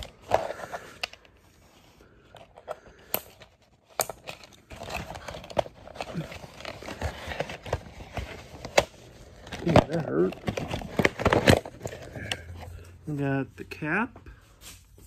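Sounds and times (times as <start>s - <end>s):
packaging crinkling and rustling: 0.0s - 12.7s.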